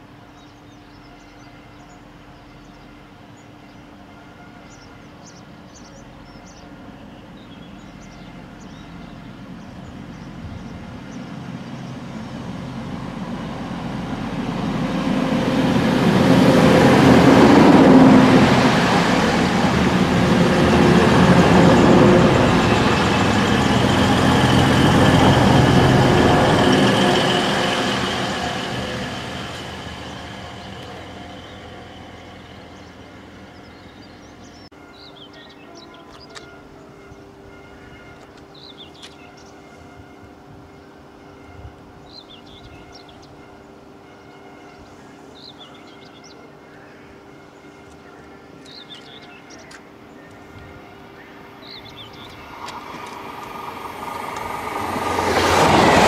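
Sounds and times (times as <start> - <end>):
diesel train passing: 0.0 - 56.0
train wheels on rails: 7.8 - 46.6, 47.4 - 56.0.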